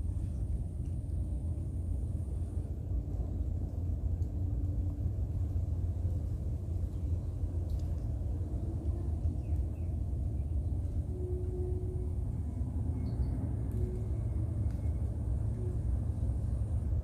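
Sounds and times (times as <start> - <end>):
faint high-pitched whine: 0.0 - 17.0
low outdoor rumble: 0.0 - 17.0.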